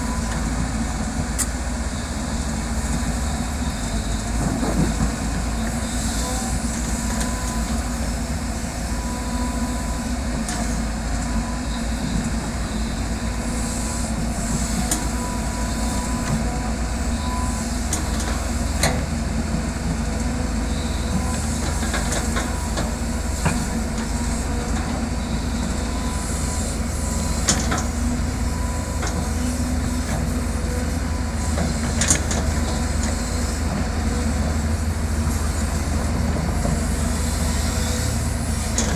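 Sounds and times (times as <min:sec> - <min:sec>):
excavator diesel engine rumbling: 0:00.0 - 0:38.9.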